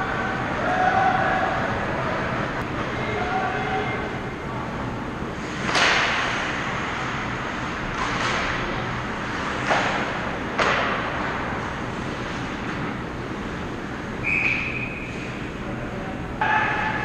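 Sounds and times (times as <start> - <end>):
indoor rink background noise: 0.0 - 17.0.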